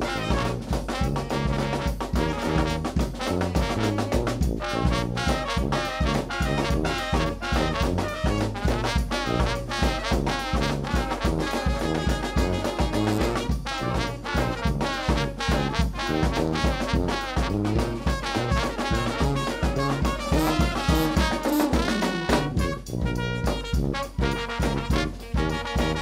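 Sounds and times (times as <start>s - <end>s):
bass drum: 0.0s - 26.0s
saxophone: 0.0s - 26.0s
snare drum: 0.0s - 26.0s
trombone: 0.0s - 26.0s
trumpet: 0.0s - 26.0s.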